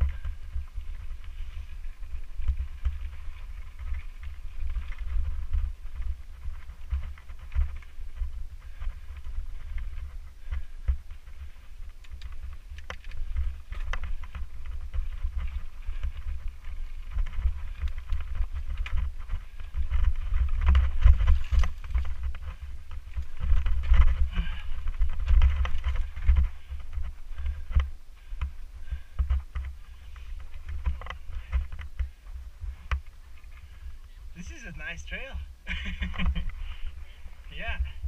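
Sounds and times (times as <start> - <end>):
bike rattling: 0.0 - 38.0
wind rumble on microphone: 0.0 - 38.0.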